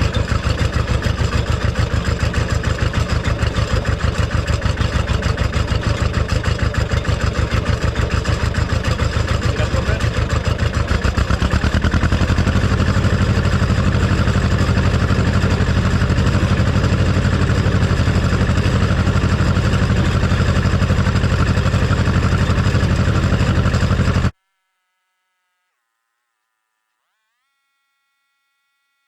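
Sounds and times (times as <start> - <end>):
vehicle engine running: 0.0 - 24.4.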